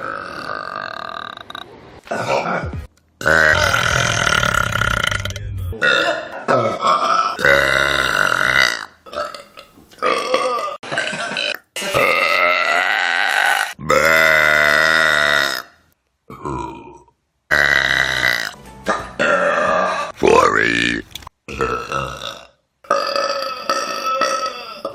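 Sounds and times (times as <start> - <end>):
person burping: 0.0 - 24.9.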